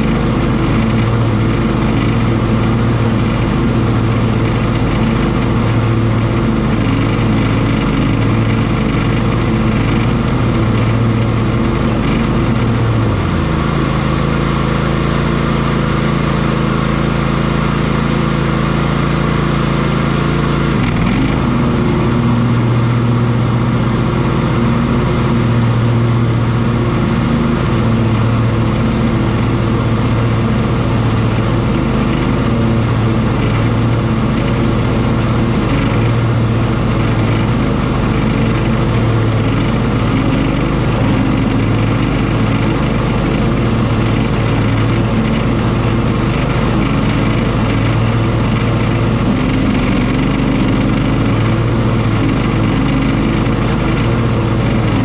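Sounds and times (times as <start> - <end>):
lawn mower engine humming: 0.0 - 55.0.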